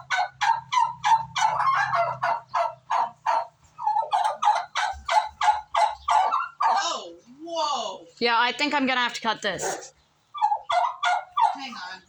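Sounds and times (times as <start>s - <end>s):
turkeys calling: 0.0s - 7.4s, 9.1s - 12.0s.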